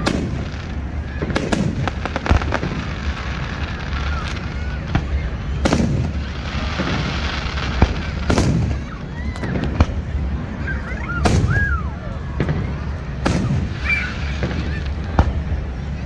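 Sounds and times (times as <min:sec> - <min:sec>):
fireworks rumble and crackle: 0:00.0 - 0:16.0
fireworks sharp bangs: 0:00.0 - 0:16.0.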